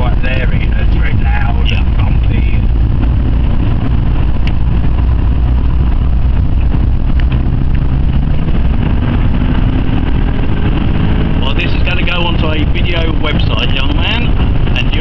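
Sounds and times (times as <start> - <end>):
car engine rumble from cabin: 0.0 - 15.0
road noise: 0.0 - 15.0.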